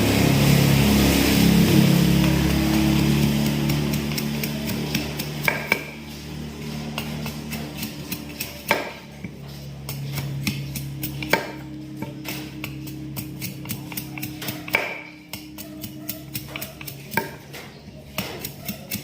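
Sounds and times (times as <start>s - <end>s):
steady low hum: 0.0s - 19.0s
hand tools tapping: 2.1s - 19.0s.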